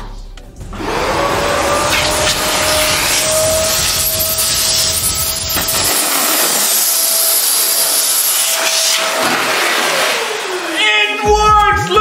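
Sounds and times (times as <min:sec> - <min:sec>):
vacuum cleaner running: 0:00.6 - 0:11.3.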